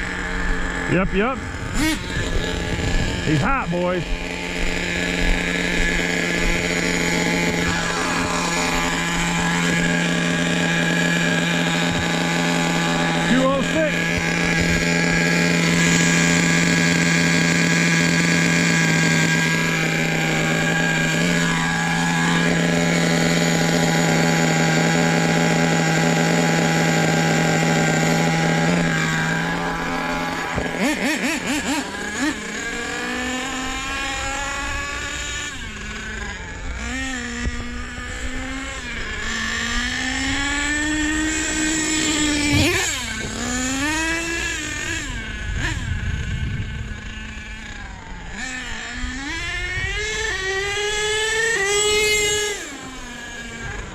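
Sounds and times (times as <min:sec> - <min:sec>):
small nitro engine running: 0:00.0 - 0:53.9.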